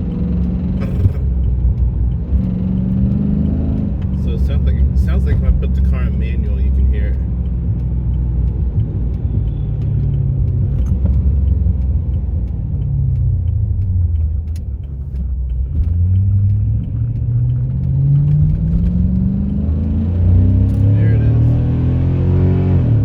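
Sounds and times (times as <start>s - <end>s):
faint engine ticking: 0.0s - 22.0s
car engine accelerating: 0.0s - 23.0s.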